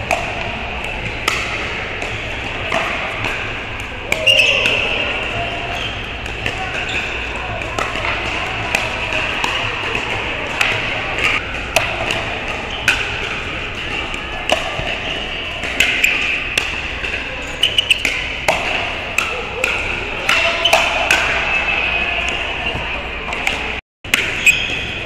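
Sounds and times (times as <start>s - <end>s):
background voices in a hall: 0.0s - 25.0s.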